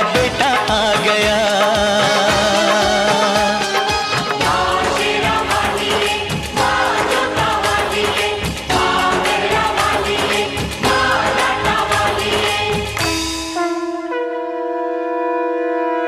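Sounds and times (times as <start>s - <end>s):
pop song with singing: 0.0s - 13.5s.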